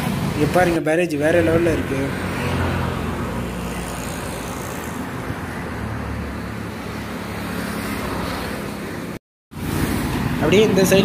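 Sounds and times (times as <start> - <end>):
rumble of passing vehicles: 0.0 - 11.0.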